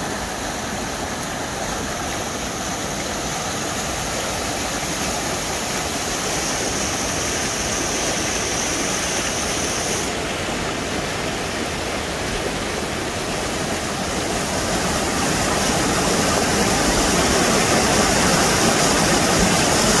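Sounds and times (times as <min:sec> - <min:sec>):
whitewater rushing over rocks: 0:00.0 - 0:20.0.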